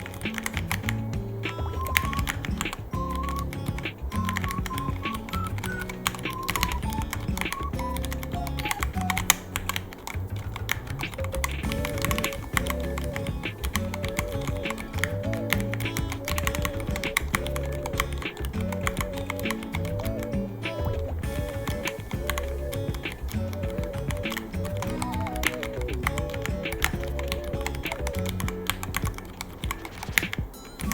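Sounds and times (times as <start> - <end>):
background music with bass line: 0.0 - 30.9.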